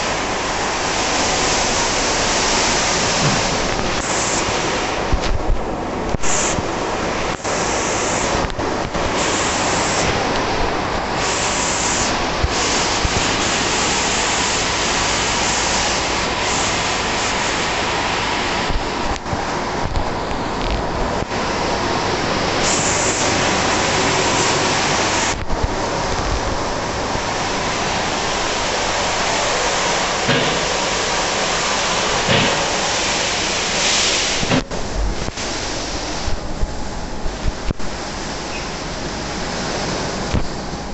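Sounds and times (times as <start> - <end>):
water spraying hiss: 0.0 - 5.5, 6.1 - 36.6.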